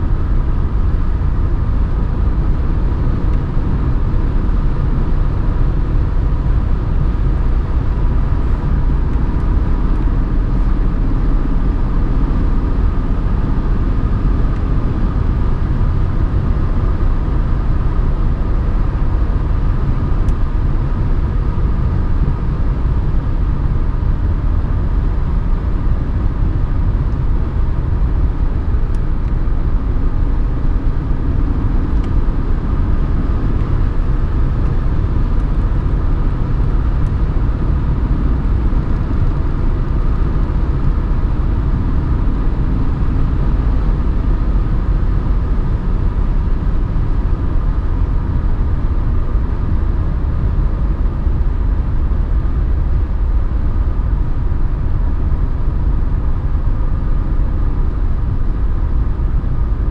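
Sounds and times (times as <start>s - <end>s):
diesel engine cruising in cabin: 0.0s - 59.9s
road noise: 0.0s - 59.9s.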